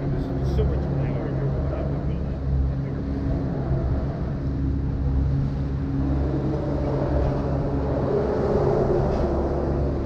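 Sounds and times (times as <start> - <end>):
motorboat engine humming: 0.0 - 10.0.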